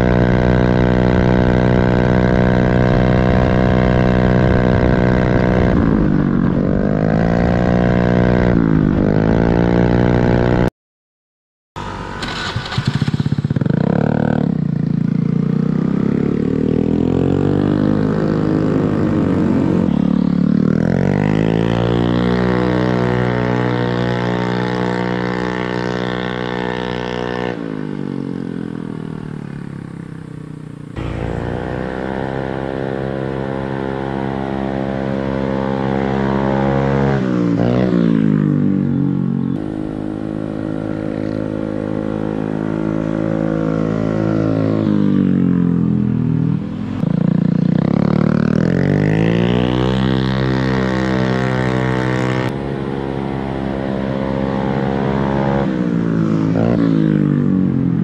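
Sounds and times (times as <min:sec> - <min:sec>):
scooter engine revving: 0:00.0 - 0:10.7, 0:11.8 - 0:58.0.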